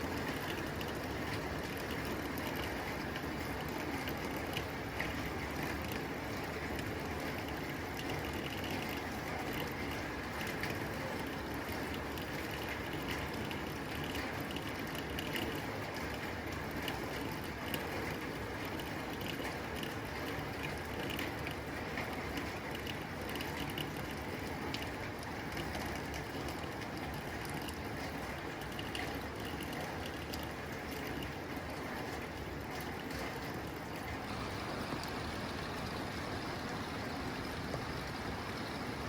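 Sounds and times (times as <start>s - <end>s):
rain on a tin roof: 0.0s - 39.0s.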